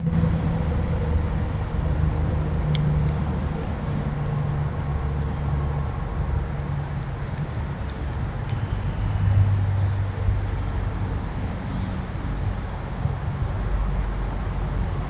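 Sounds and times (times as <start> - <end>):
mechanical rumble and drone: 0.0 - 15.0.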